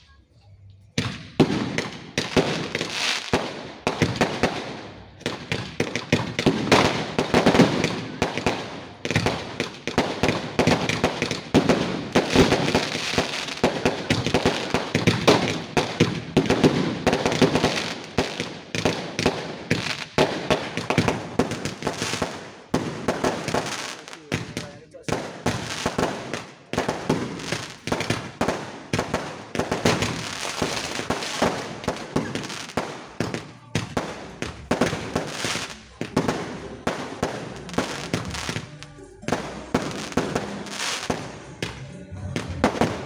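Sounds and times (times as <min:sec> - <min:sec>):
fireworks crackling and banging: 0:00.0 - 0:43.0.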